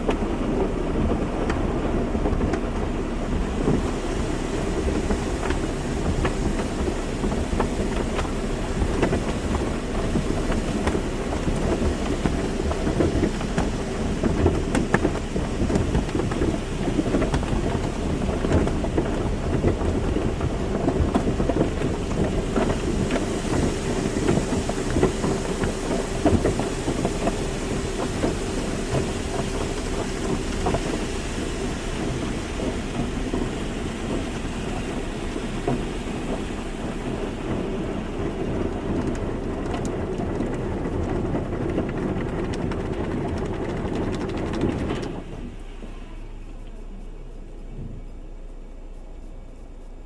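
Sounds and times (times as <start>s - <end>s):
water spray drumming on car: 0.0s - 50.0s.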